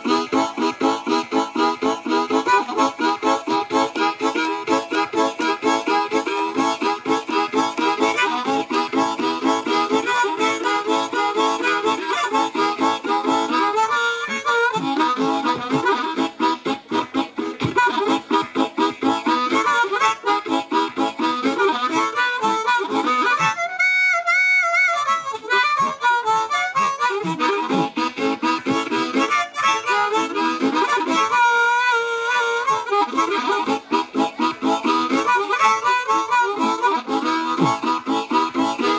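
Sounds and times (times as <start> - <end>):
blues harmonica: 0.0 - 38.9.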